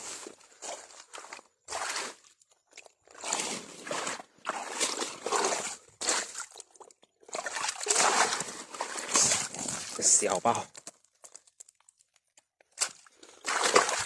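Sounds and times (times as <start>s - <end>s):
water sloshing and splashing: 0.1s - 14.0s.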